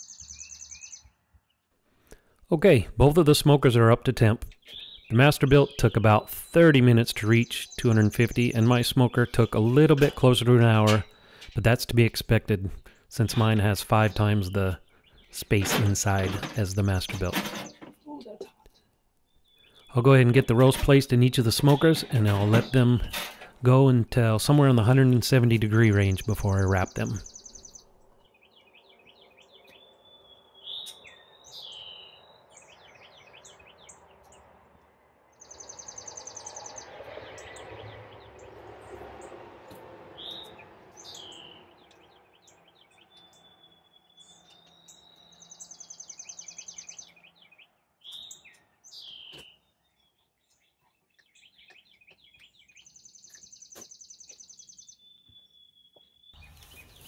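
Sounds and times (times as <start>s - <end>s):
birds chirping and whistling: 0.0s - 1.2s, 4.5s - 12.0s, 12.7s - 18.1s, 18.7s - 23.4s, 24.0s - 34.5s, 35.4s - 38.5s, 40.1s - 57.0s.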